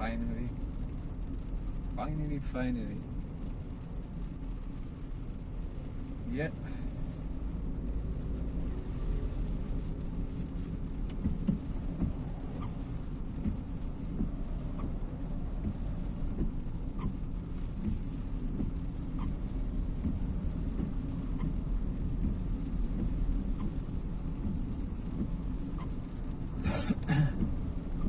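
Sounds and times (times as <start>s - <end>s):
car engine and road rumble: 0.0s - 28.0s
rain ticking on car: 0.0s - 28.0s.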